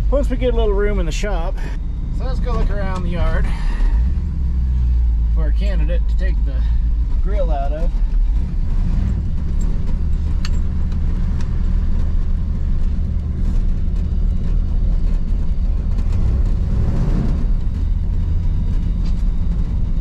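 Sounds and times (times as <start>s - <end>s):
pickup truck engine rumble: 0.0s - 20.0s.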